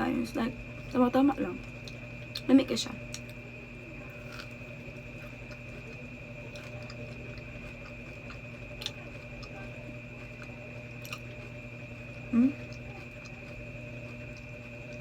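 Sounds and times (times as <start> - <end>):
electrical hum: 0.0 - 15.0
chewing soft cookie: 0.4 - 15.0.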